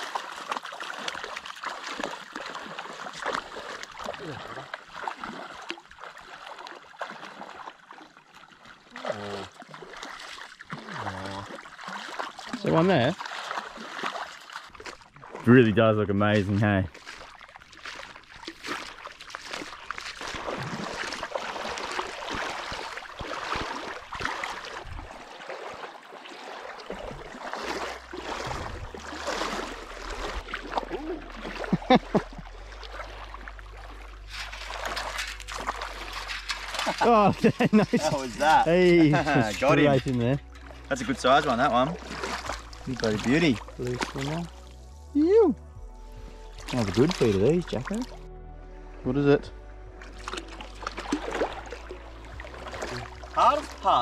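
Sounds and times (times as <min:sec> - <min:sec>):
splashing in shallow water: 0:00.0 - 0:45.0, 0:46.0 - 0:48.3, 0:49.9 - 0:54.0.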